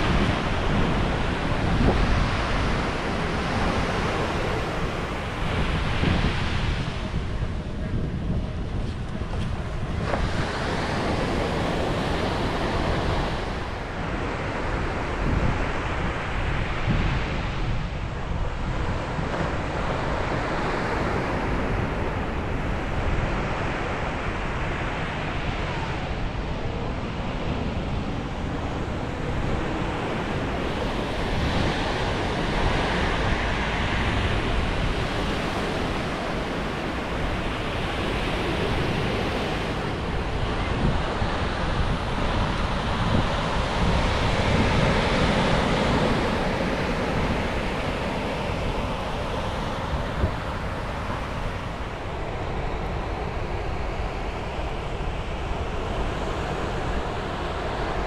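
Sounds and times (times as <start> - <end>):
ocean waves breaking on beach: 0.0 - 58.0
wind on microphone: 0.0 - 58.0.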